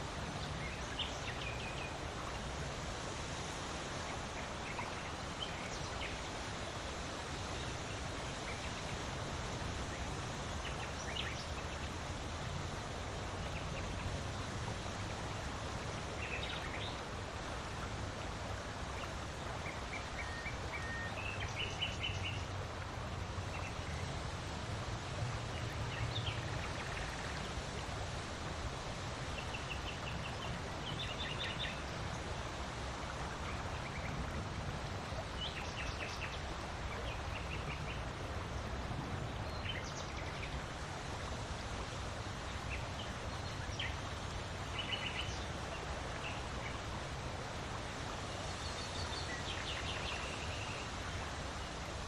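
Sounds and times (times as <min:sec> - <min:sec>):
wind blowing with low rumble: 0:00.0 - 0:52.0.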